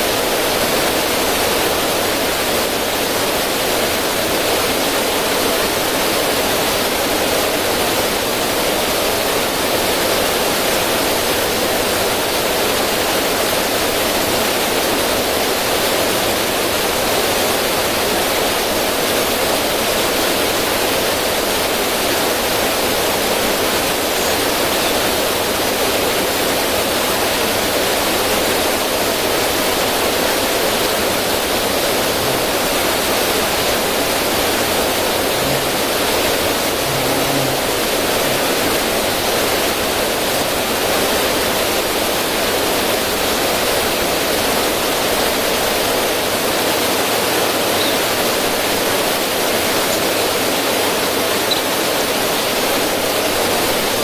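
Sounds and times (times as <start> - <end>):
river water splashing over stones: 0.0 - 54.0.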